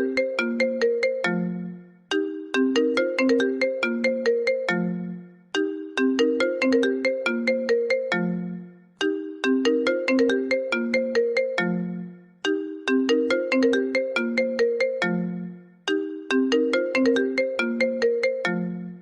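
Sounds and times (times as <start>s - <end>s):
phone ringtone: 0.0s - 19.0s.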